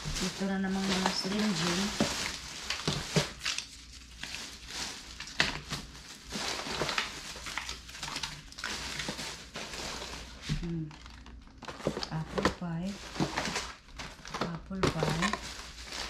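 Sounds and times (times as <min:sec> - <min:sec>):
plastic wrappers crinkling: 0:00.0 - 0:16.0.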